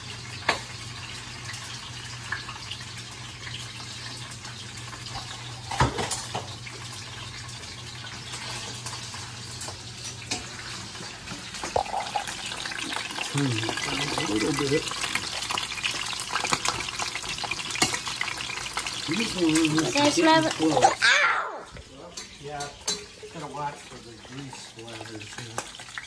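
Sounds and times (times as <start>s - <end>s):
fish sizzling in oil: 0.0s - 26.0s.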